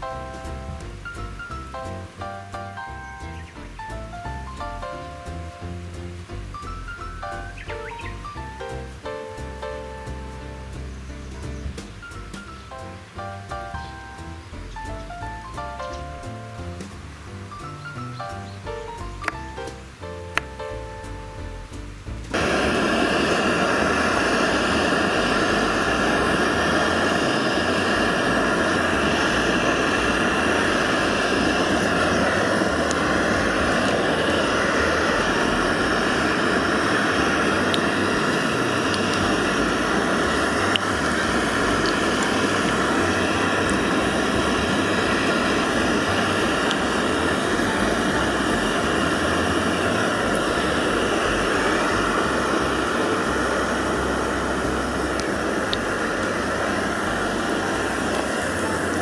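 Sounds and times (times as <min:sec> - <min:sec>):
gas burner flame: 0:00.0 - 0:59.0.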